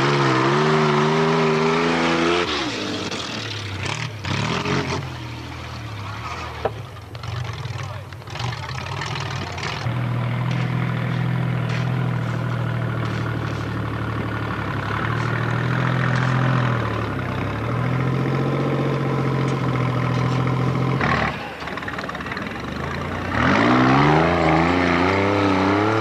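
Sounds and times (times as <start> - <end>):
race car engine running: 0.0 - 26.0.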